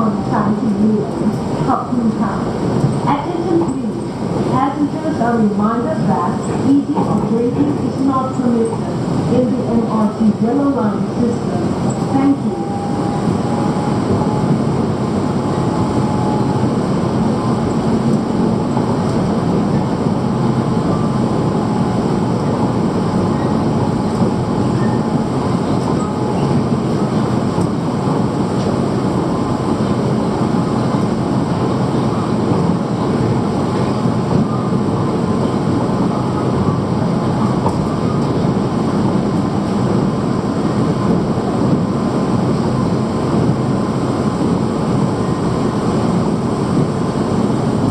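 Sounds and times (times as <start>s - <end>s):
train low rumble: 0.0s - 47.9s.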